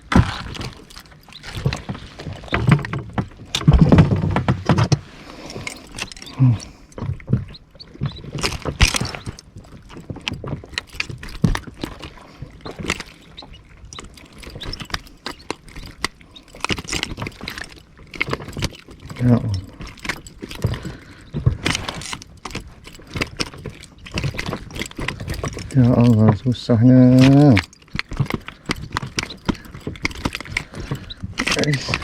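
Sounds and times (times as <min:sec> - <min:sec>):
gear knocking and rubbing: 0:00.0 - 0:32.0.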